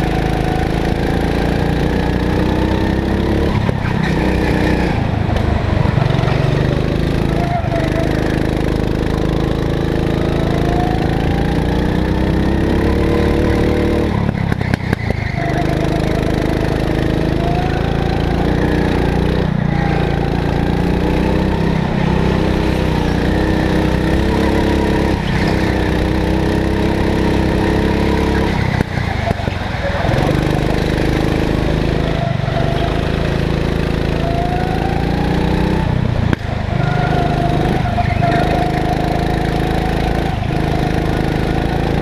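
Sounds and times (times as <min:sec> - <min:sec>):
go-kart engine running: 0:00.0 - 0:42.0.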